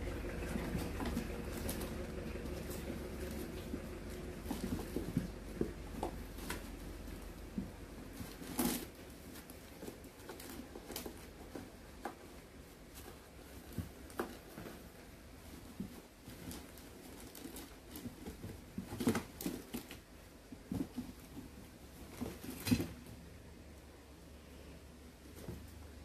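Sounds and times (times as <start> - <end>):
paws and kibble taps and rustles: 0.0 - 23.3, 25.1 - 26.0.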